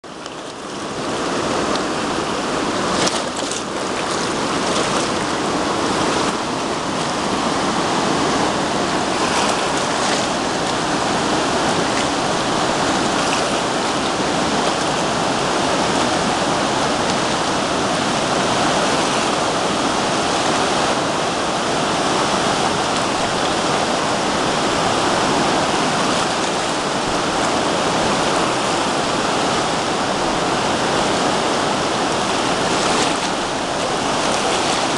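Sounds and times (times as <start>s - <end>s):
flooded river rushing: 0.0s - 34.9s.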